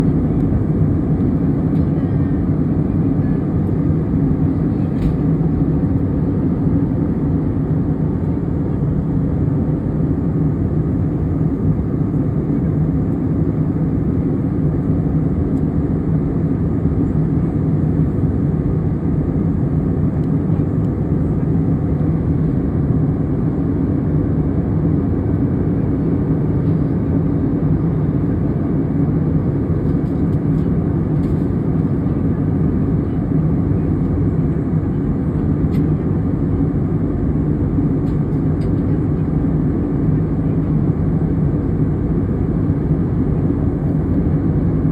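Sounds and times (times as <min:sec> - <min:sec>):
airplane engines droning: 0:00.0 - 0:44.9.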